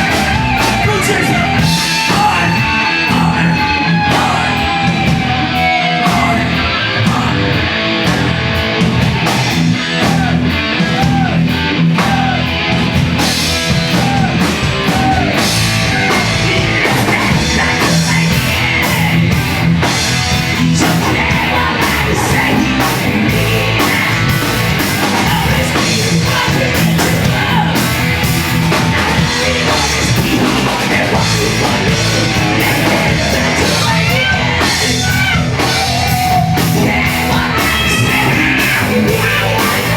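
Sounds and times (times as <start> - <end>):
person singing: 0.0 - 7.9, 9.9 - 12.6, 13.7 - 39.9
distorted electric guitars: 0.0 - 39.9
drum kit: 0.0 - 39.9.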